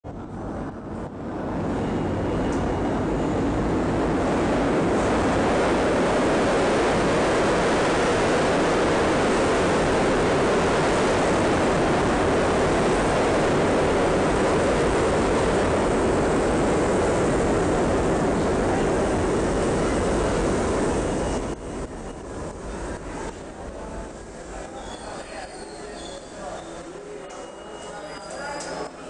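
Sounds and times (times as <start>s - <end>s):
subway train roaring: 0.0s - 29.0s.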